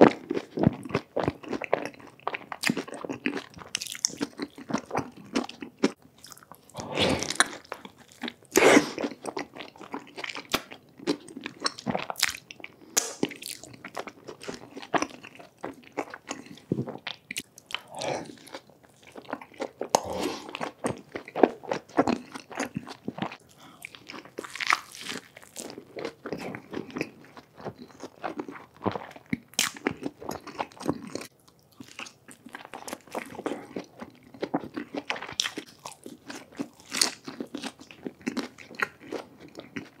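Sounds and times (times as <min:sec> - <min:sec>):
man chewing food: 0:00.0 - 0:40.0.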